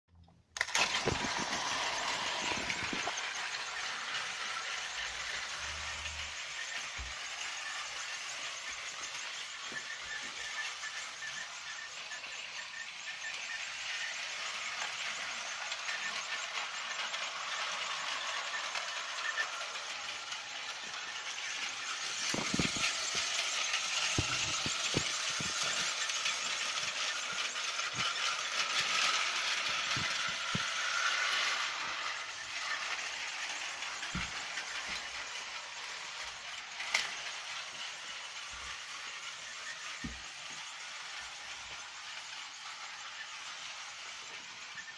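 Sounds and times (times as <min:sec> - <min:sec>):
toy train whirring and rattling: 0:00.2 - 0:44.9.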